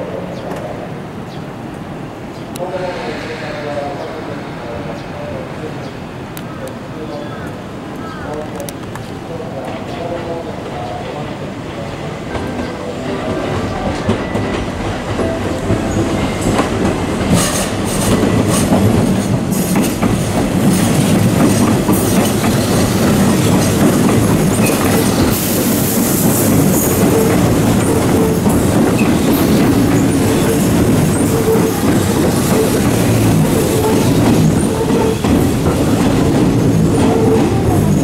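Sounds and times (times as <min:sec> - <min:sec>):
electric train passing: 0:00.9 - 0:08.0, 0:09.2 - 0:38.0.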